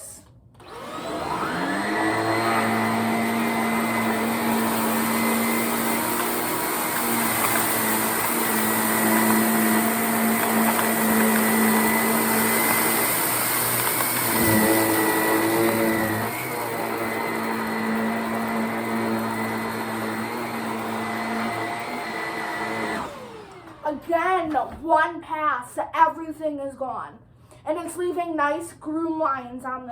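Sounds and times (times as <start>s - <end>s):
stick vacuum running over carpet: 0.6s - 24.6s.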